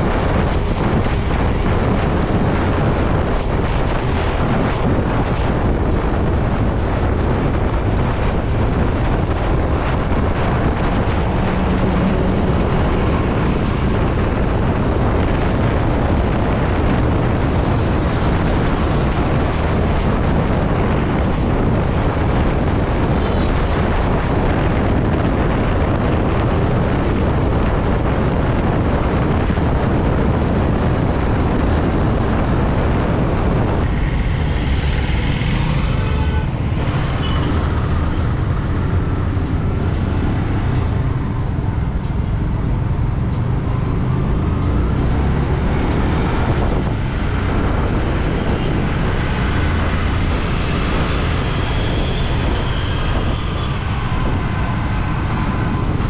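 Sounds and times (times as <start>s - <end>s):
road traffic: 0.0s - 56.0s
wind rushing over microphone: 0.0s - 56.0s.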